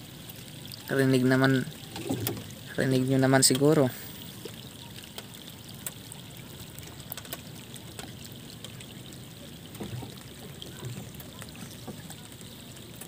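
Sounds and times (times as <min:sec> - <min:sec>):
rain hissing on sea: 0:00.0 - 0:13.0
raindrop ticks: 0:00.2 - 0:13.0.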